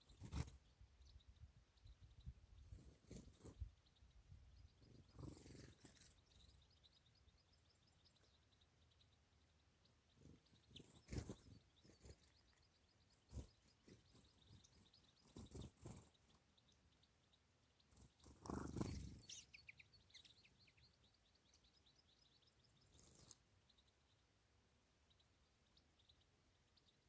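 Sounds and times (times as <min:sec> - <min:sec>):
finches twittering: 0:00.0 - 0:24.3.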